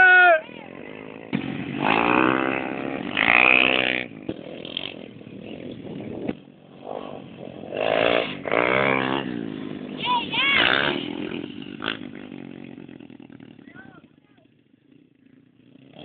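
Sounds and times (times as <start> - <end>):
pit bike engines revving: 0.0 - 16.0.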